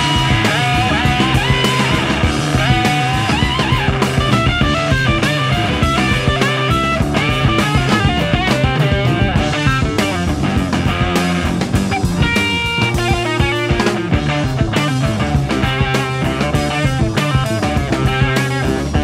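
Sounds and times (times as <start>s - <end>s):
bass guitar: 0.0s - 19.0s
drum kit: 0.0s - 19.0s
electric guitar lines: 0.0s - 19.0s.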